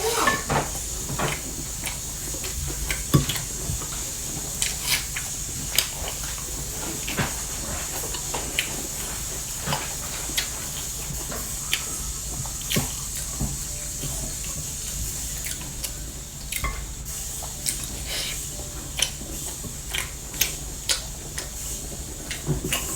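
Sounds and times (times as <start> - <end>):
steady hiss: 0.0 - 22.9
chewing food: 0.1 - 22.9.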